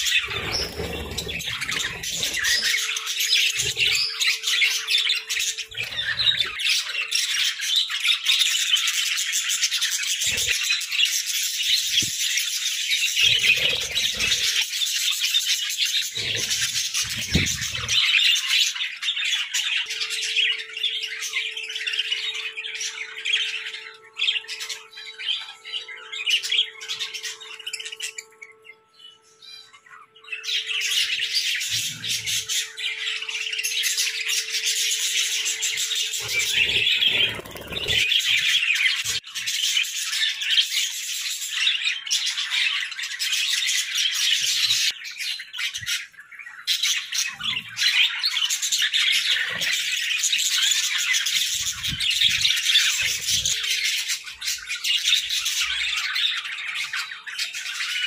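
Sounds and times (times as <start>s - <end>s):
budgerigars chattering and squawking: 0.0s - 58.0s.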